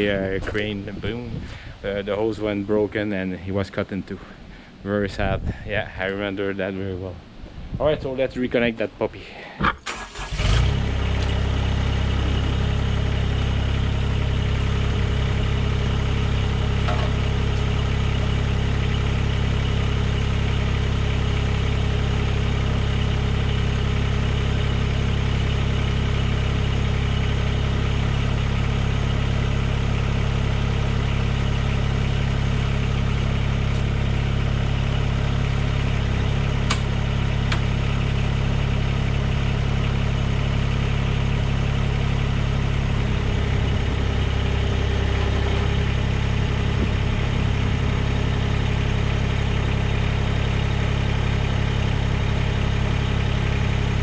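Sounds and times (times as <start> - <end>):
tractor diesel engine idling: 9.8 - 54.0.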